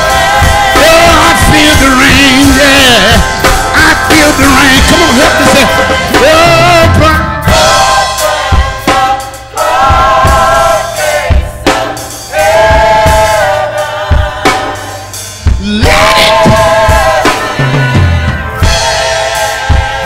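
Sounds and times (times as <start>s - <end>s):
bass: 0.0s - 20.0s
drum kit: 0.0s - 20.0s
voices singing long notes: 0.0s - 20.0s.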